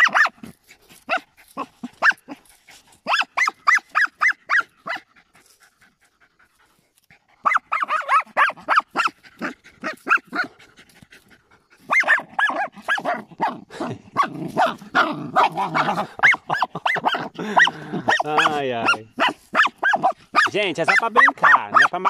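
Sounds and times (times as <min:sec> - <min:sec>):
dogs barking and yipping: 0:00.0 - 0:22.0
dogs growling: 0:00.0 - 0:22.0.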